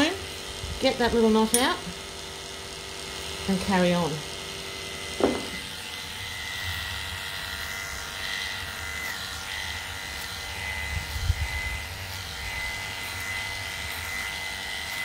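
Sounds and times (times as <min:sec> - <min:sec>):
electric dog clippers running: 0:00.0 - 0:15.0.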